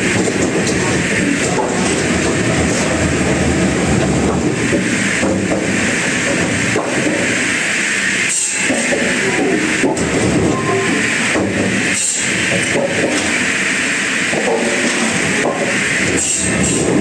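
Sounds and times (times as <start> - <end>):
sawmill machinery rumbling: 0.0 - 17.0.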